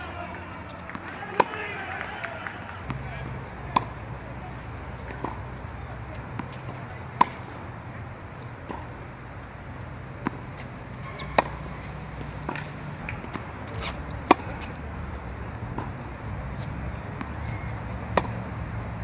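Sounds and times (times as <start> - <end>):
racket striking tennis ball: 0.0 - 7.8, 8.4 - 14.8, 15.5 - 18.9
tennis ball bouncing: 0.0 - 19.0.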